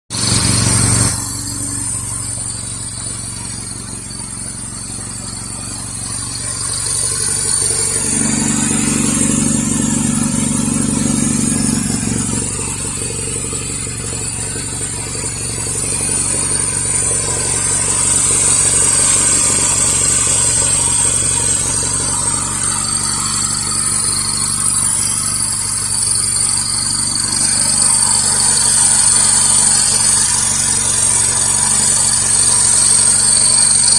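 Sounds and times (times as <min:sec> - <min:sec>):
small car engine idling: 0:00.1 - 0:33.9.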